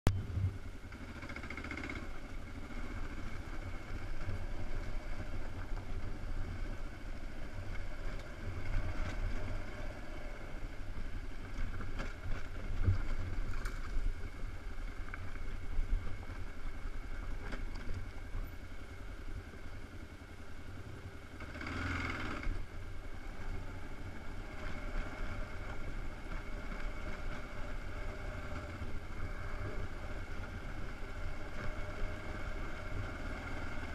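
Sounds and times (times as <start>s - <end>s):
motorcycle engine rumble: 0.1s - 33.9s.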